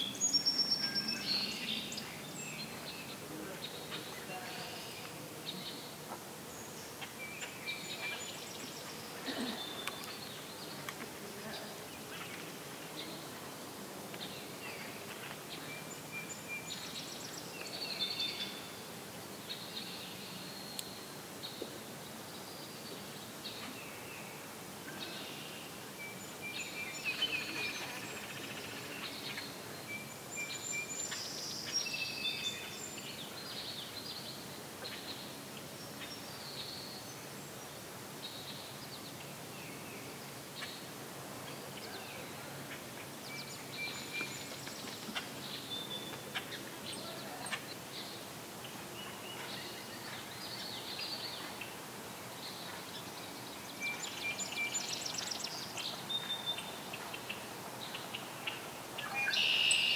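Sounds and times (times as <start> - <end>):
songbirds singing: 0.0 - 59.9
steady background hiss: 0.0 - 59.9.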